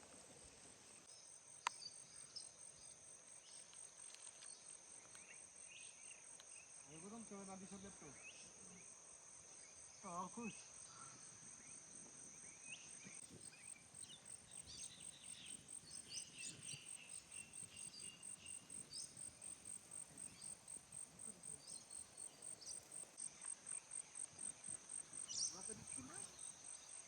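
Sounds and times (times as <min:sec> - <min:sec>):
insects trilling: 0:00.3 - 0:27.0.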